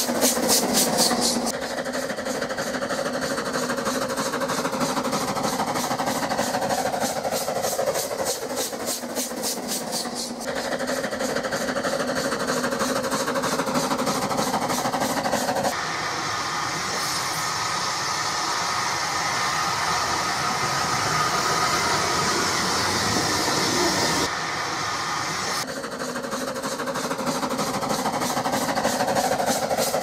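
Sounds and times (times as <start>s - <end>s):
steam hiss: 0.0s - 30.0s
steam locomotive chuffing: 0.0s - 30.0s.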